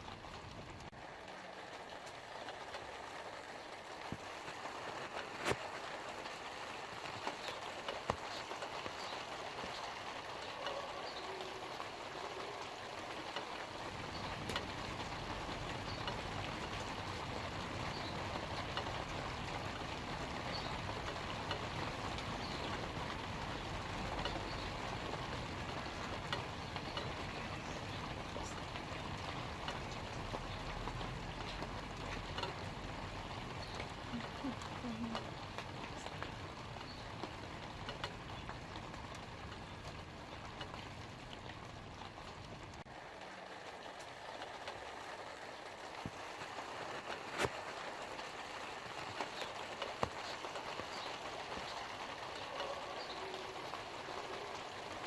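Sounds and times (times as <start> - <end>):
light rain on leaves: 0.0 - 55.0.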